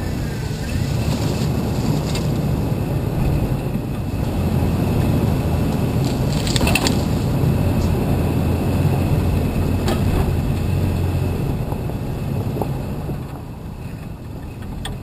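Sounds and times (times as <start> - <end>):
brush scraping along vehicle: 0.0 - 15.0
vehicle engine rumbling: 0.0 - 15.0.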